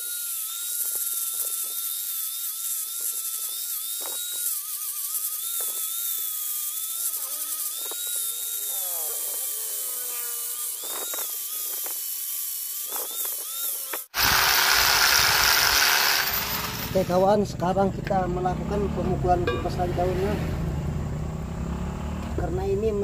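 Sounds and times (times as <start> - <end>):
angle grinder sanding metal: 0.0 - 20.7.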